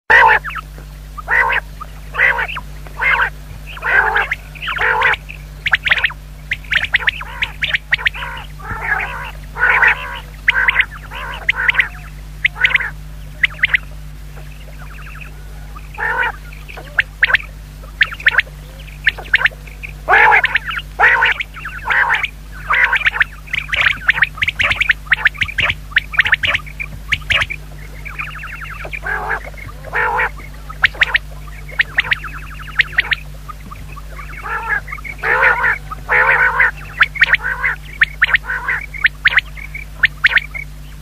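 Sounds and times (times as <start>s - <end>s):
quail calling: 0.1s - 41.0s
steady low hum: 0.1s - 41.0s.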